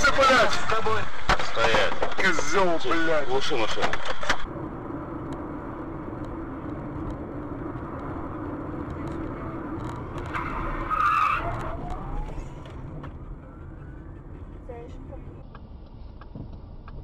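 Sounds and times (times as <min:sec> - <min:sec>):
car engine and tyre noise: 0:00.0 - 0:17.0.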